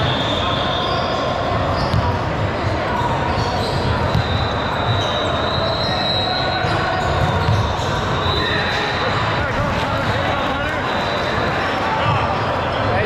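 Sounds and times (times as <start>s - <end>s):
hubbub of voices: 0.0s - 13.0s.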